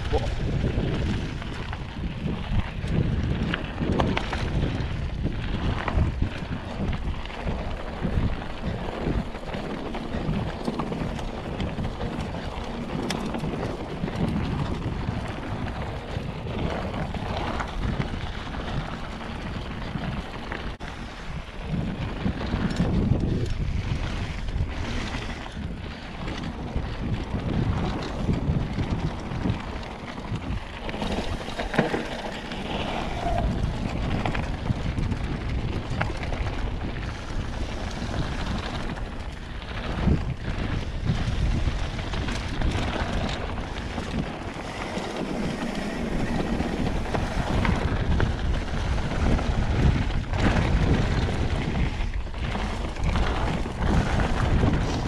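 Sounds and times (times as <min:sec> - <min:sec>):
bike rattling over bumps: 0:00.0 - 0:55.0
bike tyres rolling over gravel: 0:00.0 - 0:55.0
wind buffeting microphone: 0:00.0 - 0:55.0.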